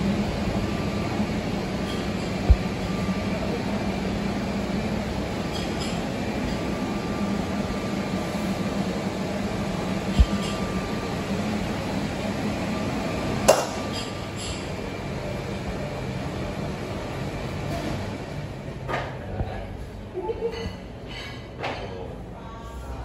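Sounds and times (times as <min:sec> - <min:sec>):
restaurant room hum: 0:00.0 - 0:23.0.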